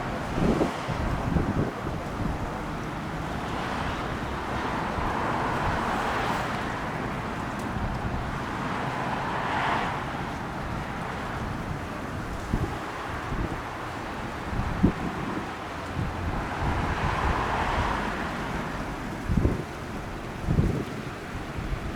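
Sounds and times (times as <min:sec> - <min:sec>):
wind on the microphone: 0:00.0 - 0:06.9, 0:07.5 - 0:08.8, 0:09.9 - 0:21.9
road traffic: 0:00.0 - 0:21.9.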